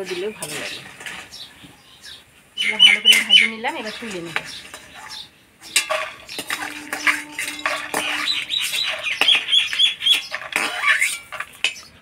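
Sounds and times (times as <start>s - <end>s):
spatula scraping pan: 0.0s - 1.5s, 2.7s - 12.0s
bird chirping: 0.1s - 11.2s.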